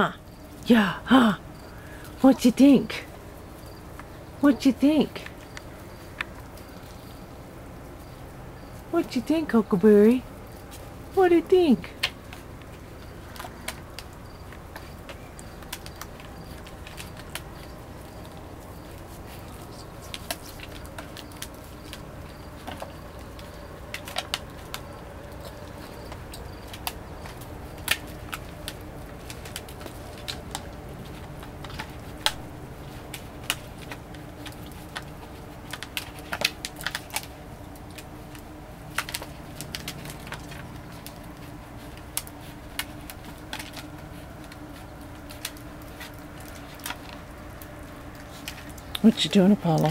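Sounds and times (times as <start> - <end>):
faint steady hum: 0.0 - 49.9
claws and kibble clicking on plastic: 1.5 - 49.9.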